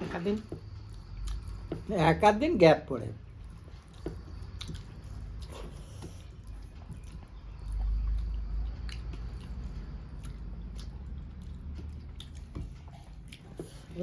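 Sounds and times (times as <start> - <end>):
person chewing food: 0.4 - 1.9, 3.2 - 14.0.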